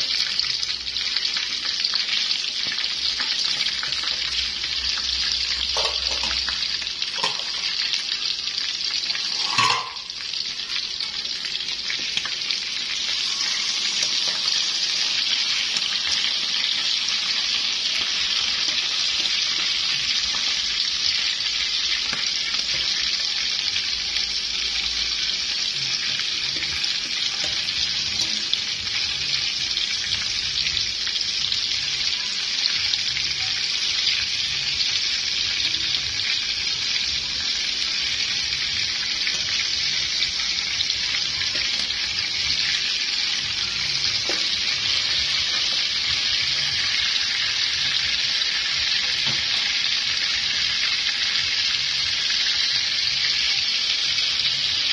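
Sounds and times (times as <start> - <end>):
ribs sizzling in oil: 0.0 - 54.9.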